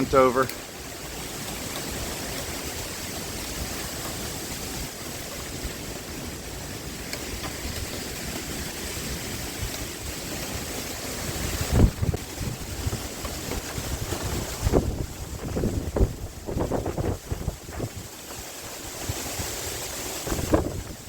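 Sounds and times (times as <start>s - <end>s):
rushing wind: 0.0s - 21.0s
wind buffeting microphone: 0.0s - 21.0s.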